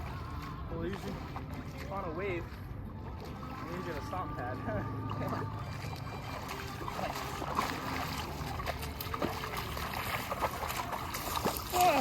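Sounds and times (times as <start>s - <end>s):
shallow water trickling: 0.0s - 12.0s
small water splashes: 0.0s - 12.0s.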